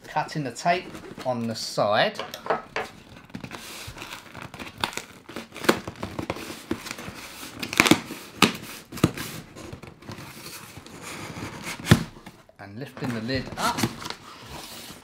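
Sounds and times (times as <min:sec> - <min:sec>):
cardboard flap scraping and crackling: 0:00.6 - 0:01.7, 0:02.8 - 0:15.0.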